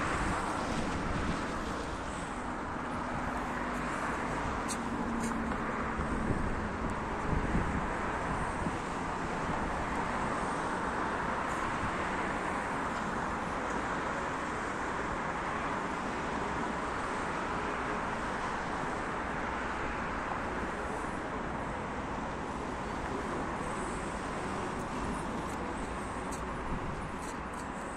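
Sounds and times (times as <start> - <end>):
outdoor background rush: 0.0 - 27.9.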